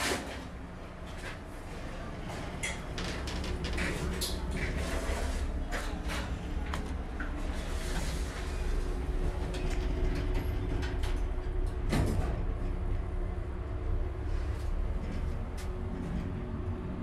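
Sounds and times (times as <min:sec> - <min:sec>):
elevator low rumble and hum: 0:00.0 - 0:17.0.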